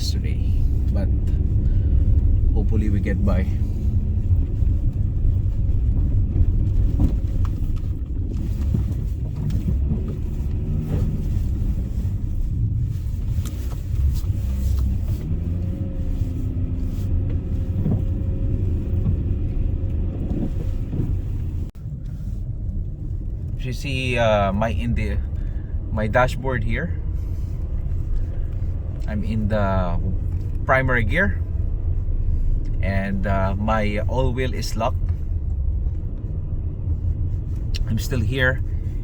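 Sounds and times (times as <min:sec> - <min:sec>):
car rumbling through snow: 0:00.0 - 0:39.0.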